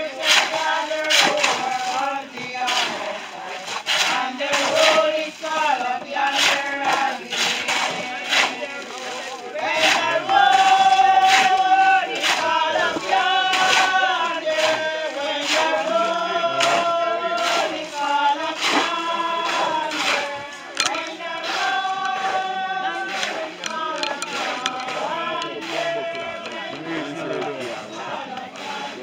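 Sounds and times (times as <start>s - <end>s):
group singing a hymn: 0.0s - 29.0s.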